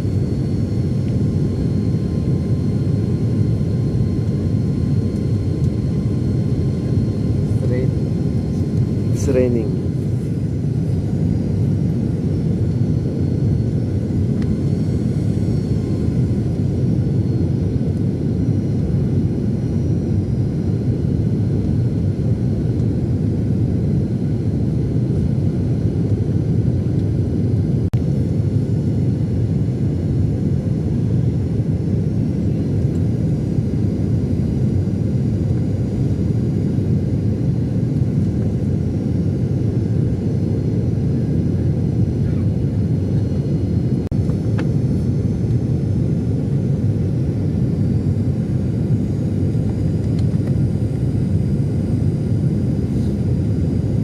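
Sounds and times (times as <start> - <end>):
airplane engine drone: 0.0 - 54.0.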